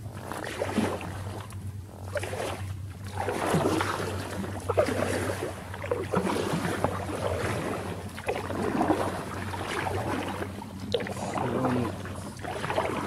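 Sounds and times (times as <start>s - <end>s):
steady low hum: 0.0s - 13.0s
water splashing against kayak: 0.0s - 13.0s.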